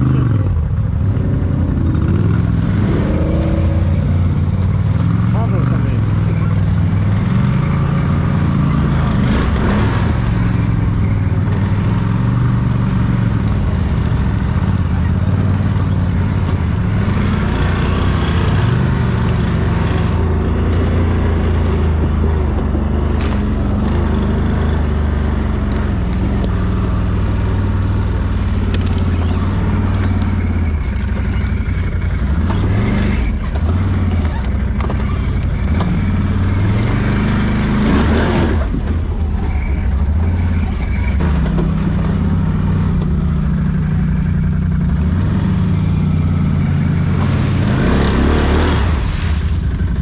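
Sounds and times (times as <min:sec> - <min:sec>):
quad engine revving: 0:00.0 - 0:50.0.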